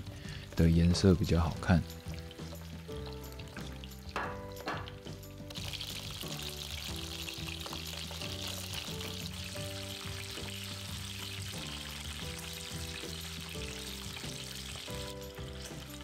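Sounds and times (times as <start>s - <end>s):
chicken frying in oil: 0.0s - 4.2s, 4.9s - 16.0s.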